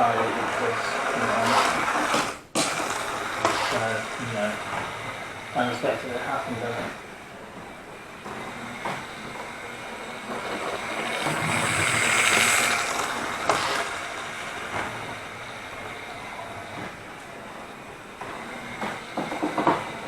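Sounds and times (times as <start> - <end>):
model train motor and wheels: 0.0 - 20.0.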